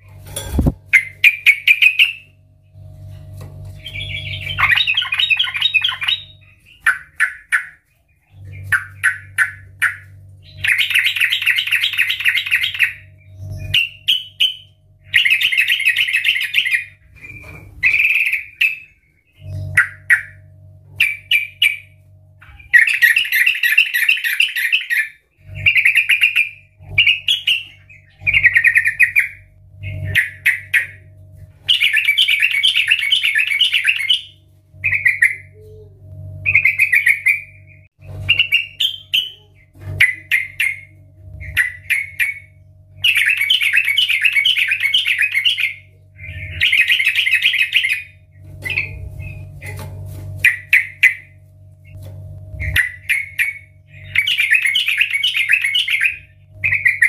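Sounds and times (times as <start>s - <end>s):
bird singing bubbling chatter: 0.0s - 57.0s.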